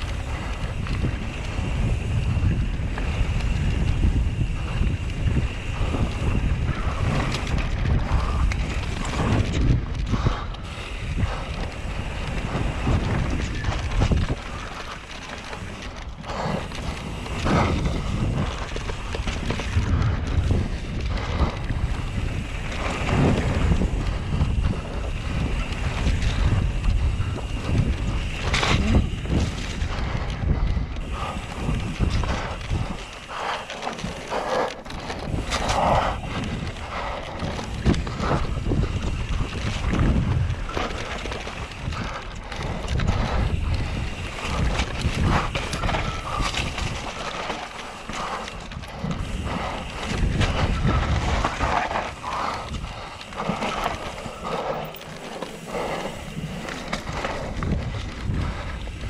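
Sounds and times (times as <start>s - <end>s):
bike knocks and rattles: 0.0s - 59.0s
tyres on dirt trail: 0.0s - 59.0s
wind buffeting microphone: 0.0s - 59.0s.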